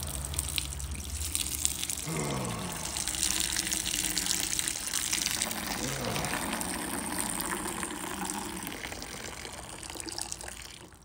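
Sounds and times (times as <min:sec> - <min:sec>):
urine splashing into bucket: 0:00.0 - 0:11.0.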